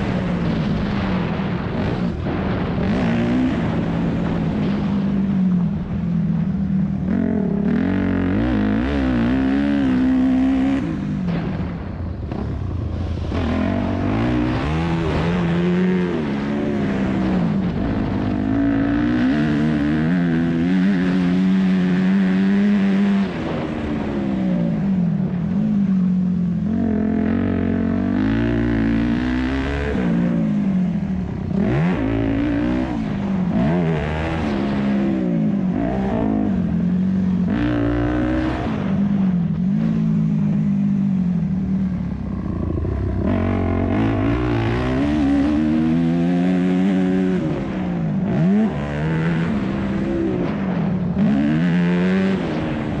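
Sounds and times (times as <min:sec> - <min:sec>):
motocross engine revving: 0:00.0 - 0:05.4, 0:07.0 - 0:11.6, 0:12.3 - 0:25.8, 0:26.6 - 0:40.7, 0:42.0 - 0:53.0.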